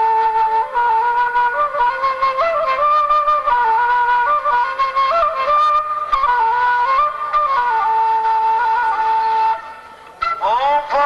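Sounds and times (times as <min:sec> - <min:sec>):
breathy flute melody: 0:00.0 - 0:11.0.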